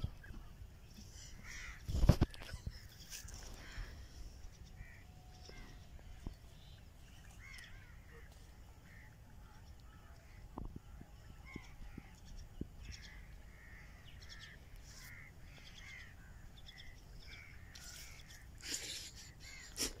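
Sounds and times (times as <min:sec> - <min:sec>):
faint short bird calls: 0:00.0 - 0:20.0.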